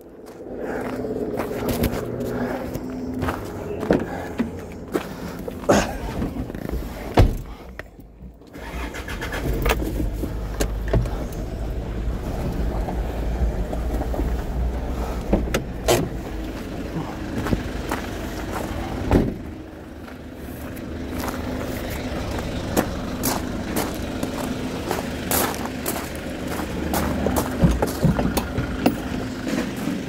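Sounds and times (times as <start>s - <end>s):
engine rumbling: 0.0s - 30.0s.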